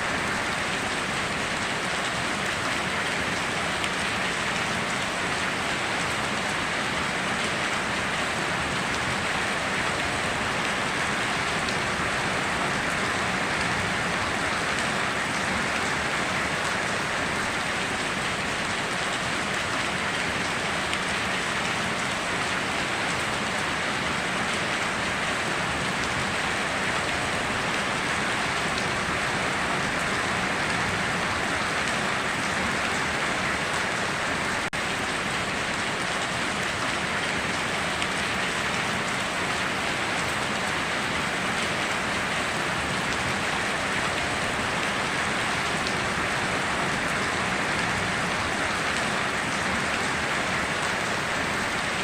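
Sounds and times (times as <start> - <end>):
rain pattering on surfaces: 0.0 - 52.0.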